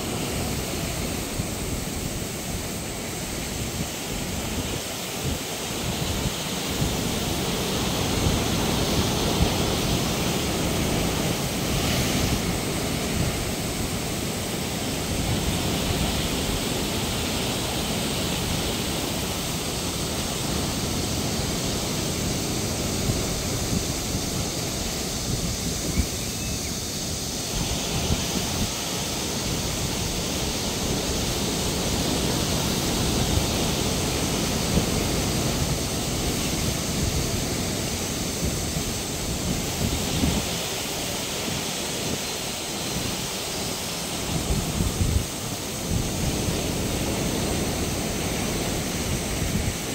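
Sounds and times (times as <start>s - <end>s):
sea waves breaking: 0.0s - 25.9s, 27.0s - 49.9s
wind buffeting microphone: 0.0s - 49.9s.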